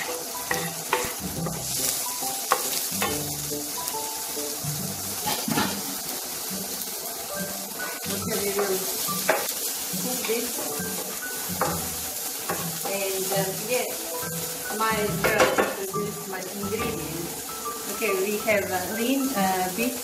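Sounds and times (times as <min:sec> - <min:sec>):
background music: 0:00.0 - 0:20.0
onion sizzling in oil: 0:00.0 - 0:20.0.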